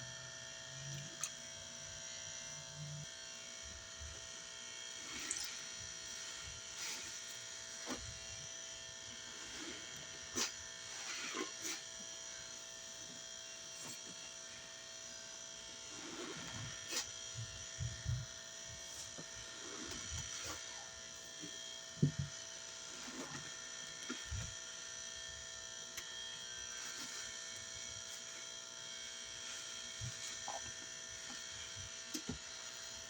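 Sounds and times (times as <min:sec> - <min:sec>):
steady electrical buzz: 0:00.0 - 0:33.0.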